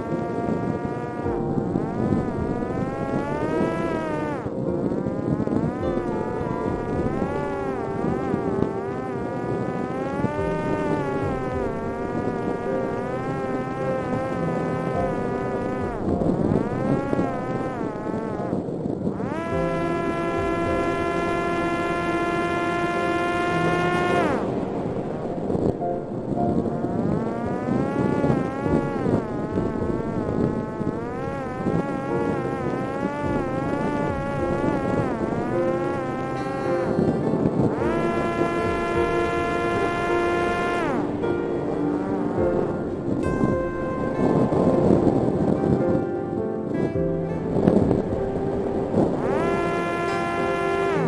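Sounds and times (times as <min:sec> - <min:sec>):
drone motor and propeller buzzing: 0:00.0 - 0:51.0
low hum: 0:00.0 - 0:51.0.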